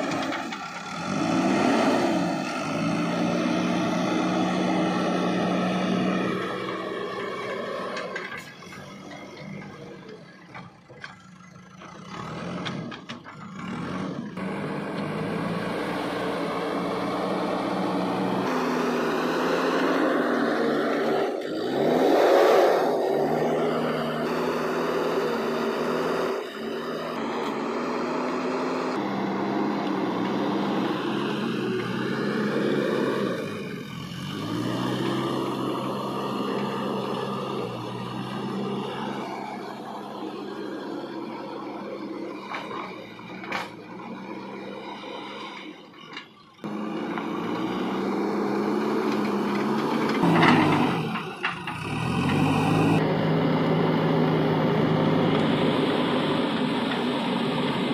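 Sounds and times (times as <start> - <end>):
diesel engine working under load: 0.0 - 57.9
loader bucket pushing soil: 0.0 - 57.9.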